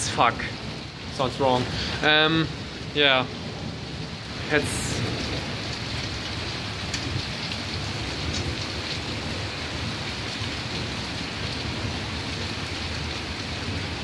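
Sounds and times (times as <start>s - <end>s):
raindrops ticking: 0.0s - 13.3s
heavy rain hissing: 0.0s - 14.0s.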